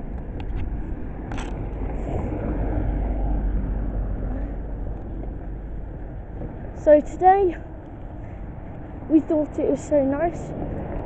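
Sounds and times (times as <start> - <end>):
low street rumble: 0.0 - 11.0.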